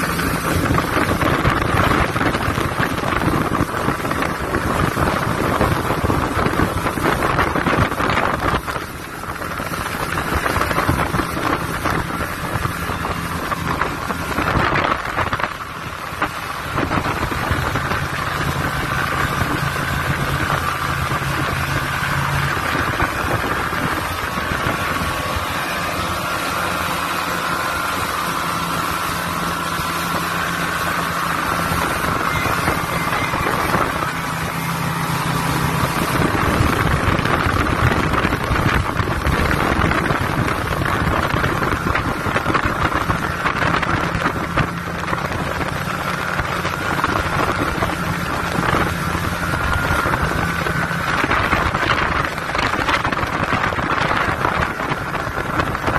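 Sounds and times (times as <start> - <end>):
outboard motor running: 0.0 - 55.9
rush of boat wake: 0.0 - 55.9
wind buffeting microphone: 0.0 - 55.9.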